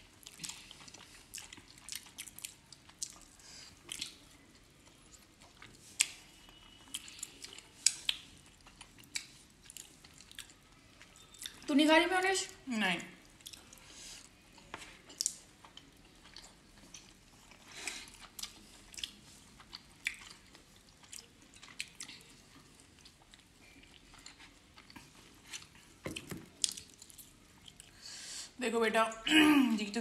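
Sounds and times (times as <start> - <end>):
quiet chewing: 0.0 - 11.7, 13.2 - 28.0.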